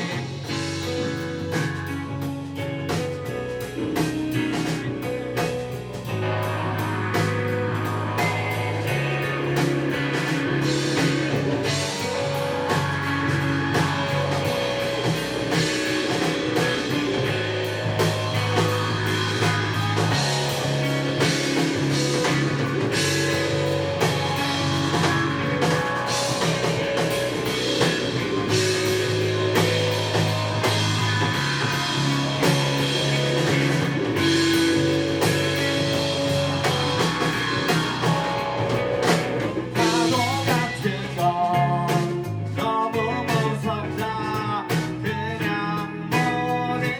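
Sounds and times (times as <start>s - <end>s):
drum kit: 0.0s - 46.9s
guitar: 0.0s - 46.9s
sustained bass notes: 0.0s - 46.9s.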